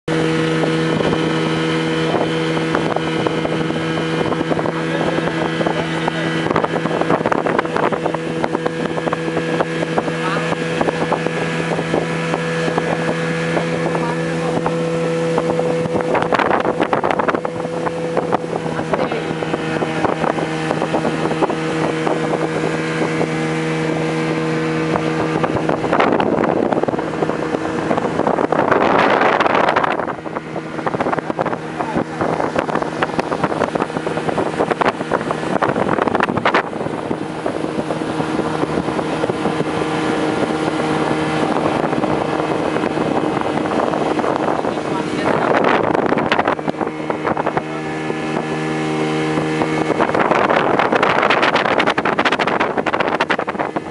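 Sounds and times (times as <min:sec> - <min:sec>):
speedboat engine running: 0:00.0 - 0:53.9
wind buffeting microphone: 0:00.1 - 0:53.9.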